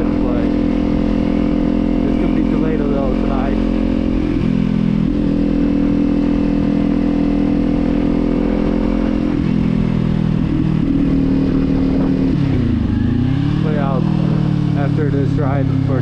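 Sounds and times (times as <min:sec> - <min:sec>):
low wind rumble: 0:00.0 - 0:16.0
motorcycle engine running: 0:00.0 - 0:16.0.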